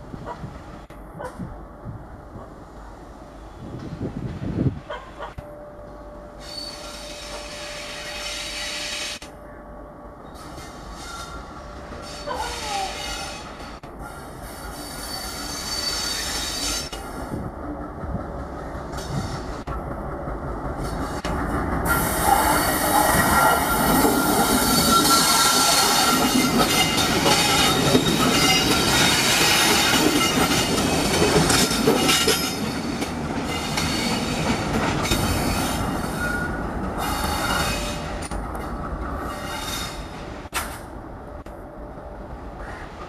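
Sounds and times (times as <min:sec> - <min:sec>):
diesel locomotives passing: 0:00.0 - 0:43.0.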